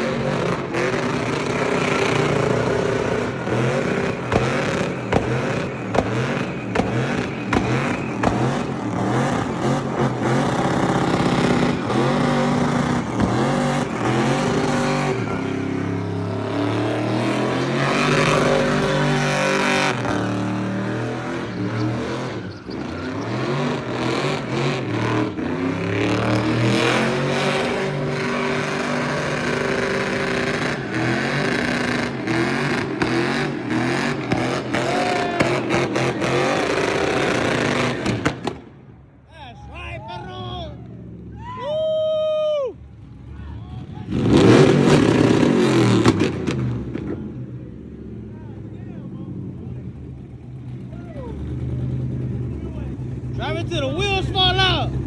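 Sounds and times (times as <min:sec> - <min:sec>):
car engine revving: 0:00.0 - 0:38.8, 0:42.9 - 0:55.0.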